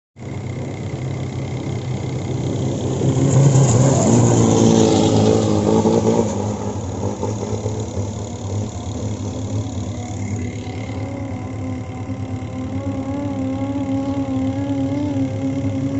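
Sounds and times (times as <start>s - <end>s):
boat diesel engine running: 0.2s - 15.9s.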